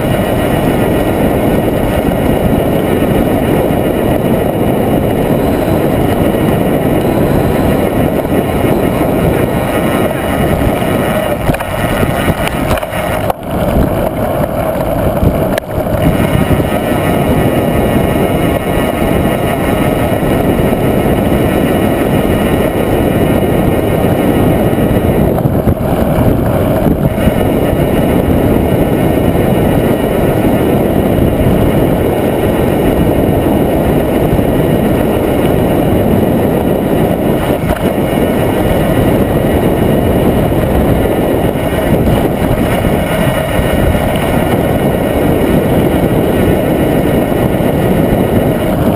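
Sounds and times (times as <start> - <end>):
wind rush on microphone: 0.0 - 48.9.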